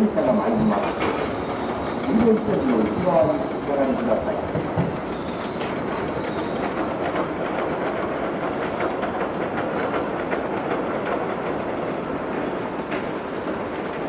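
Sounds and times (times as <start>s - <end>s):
electric train rumble: 0.0s - 14.0s
wheels clicking over rail joints: 0.0s - 14.0s.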